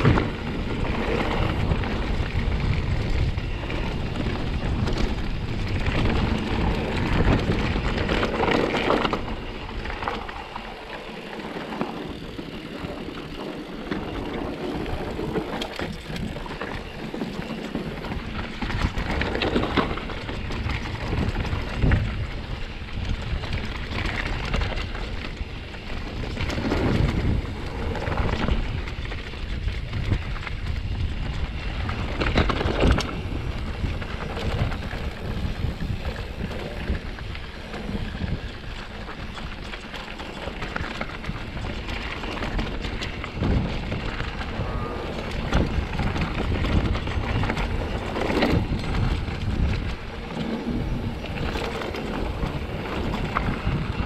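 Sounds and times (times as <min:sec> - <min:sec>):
bike rattling and clicking: 0:00.0 - 0:54.0
wind rumble on microphone: 0:00.0 - 0:54.0.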